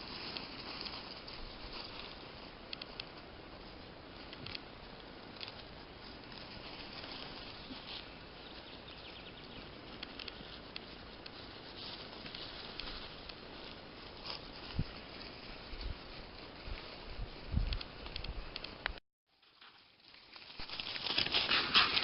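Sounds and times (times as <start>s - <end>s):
faint ticks and rustles: 0.0s - 22.0s
steady forest hiss: 0.0s - 22.0s.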